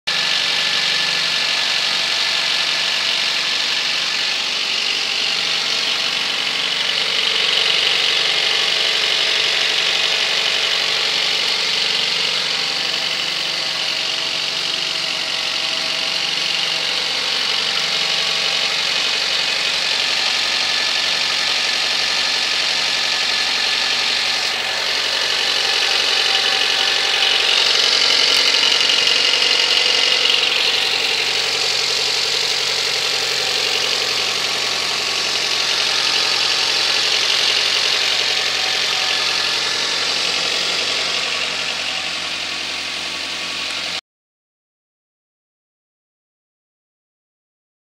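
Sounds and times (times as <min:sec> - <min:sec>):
car engine idling: 0:00.1 - 0:44.0.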